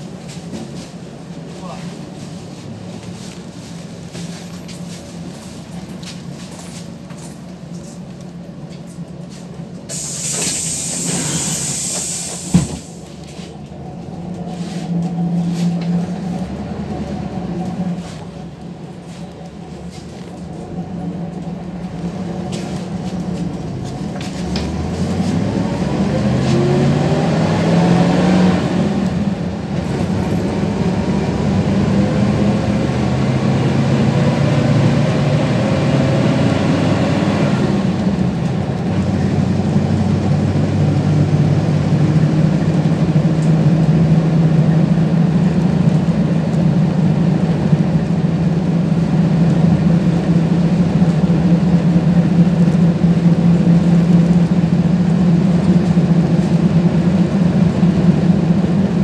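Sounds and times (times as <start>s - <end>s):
bus engine accelerating: 0.0s - 59.0s
road noise: 0.0s - 59.0s.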